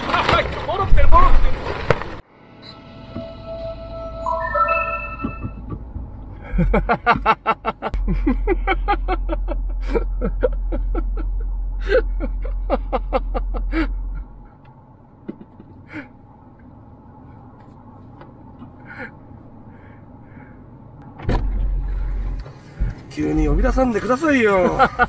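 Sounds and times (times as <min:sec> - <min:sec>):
car interior background: 0:02.4 - 0:25.0.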